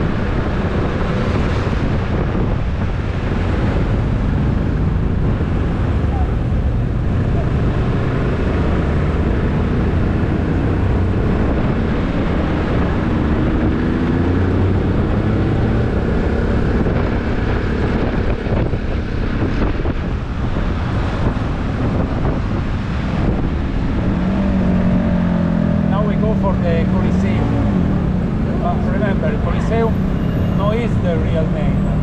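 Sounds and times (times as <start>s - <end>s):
wind buffeting microphone: 0.0s - 31.2s
city traffic: 0.0s - 32.0s.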